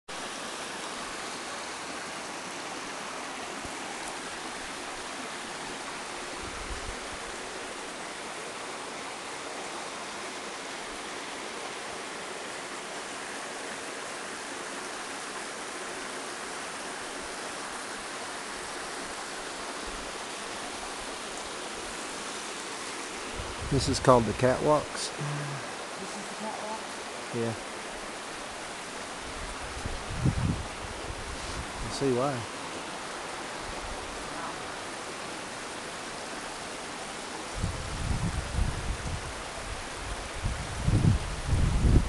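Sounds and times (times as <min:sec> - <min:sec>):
water rushing over rocks: 0:00.1 - 0:42.0.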